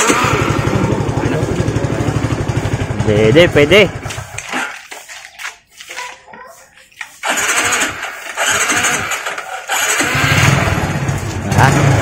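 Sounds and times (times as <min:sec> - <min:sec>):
motorcycle starter cranking engine: 0:00.0 - 0:04.9, 0:07.2 - 0:12.0.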